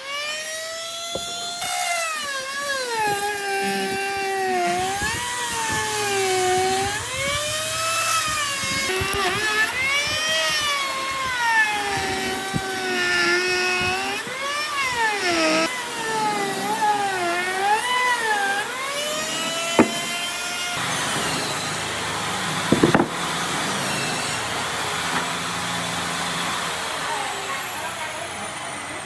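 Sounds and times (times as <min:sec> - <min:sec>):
power tool motor whine: 0:00.0 - 0:29.0.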